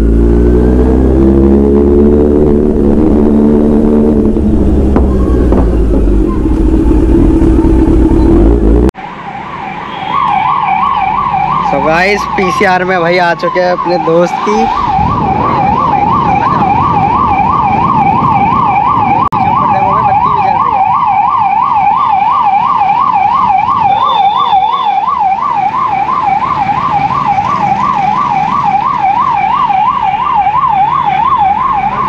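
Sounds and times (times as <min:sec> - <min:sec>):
vehicle road noise: 0:00.0 - 0:32.0
electronic siren yelping: 0:01.2 - 0:32.0.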